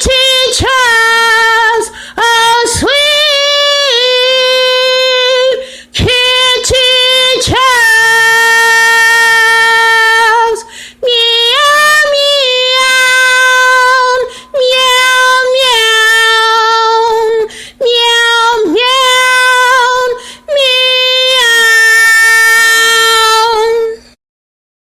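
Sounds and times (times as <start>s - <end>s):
woman singing long held notes: 0.0s - 24.2s.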